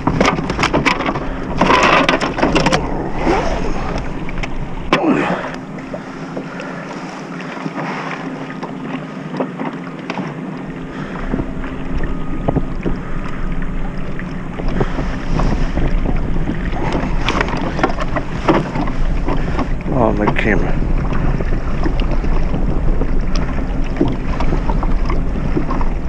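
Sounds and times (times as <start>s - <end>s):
wind buffeting microphone: 0.0s - 7.7s, 10.4s - 26.0s
water against a hull: 0.0s - 26.0s.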